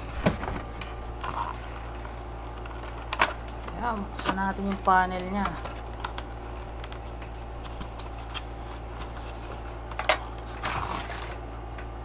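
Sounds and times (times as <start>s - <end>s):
packaging clicks and rustles: 0.0s - 11.5s
steady low hum: 0.0s - 12.0s.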